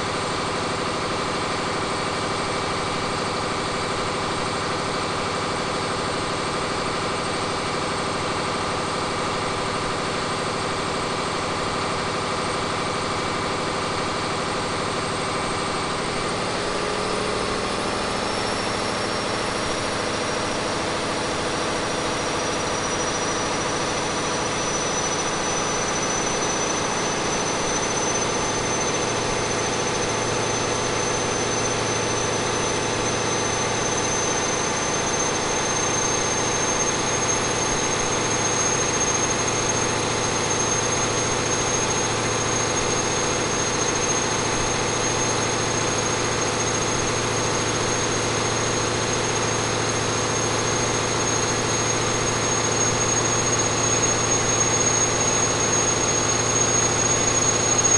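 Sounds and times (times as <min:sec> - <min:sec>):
diesel engine running under load: 0:00.0 - 0:57.9
high whine rising in pitch: 0:00.0 - 0:57.9.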